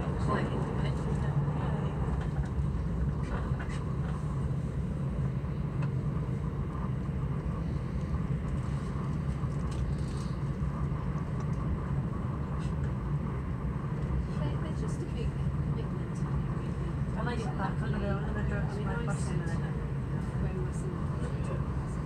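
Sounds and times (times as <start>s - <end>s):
train interior low rumble: 0.0s - 22.0s.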